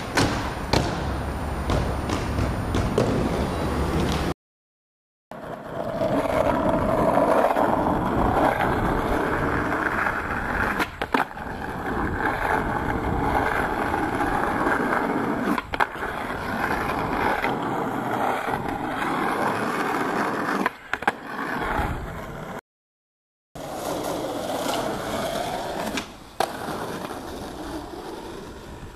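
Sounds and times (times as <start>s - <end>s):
skateboard clacking on ground: 0.0s - 4.3s, 5.4s - 22.6s, 23.6s - 28.9s
skateboard wheels rolling on asphalt: 0.0s - 4.3s, 5.3s - 22.6s, 23.6s - 28.9s.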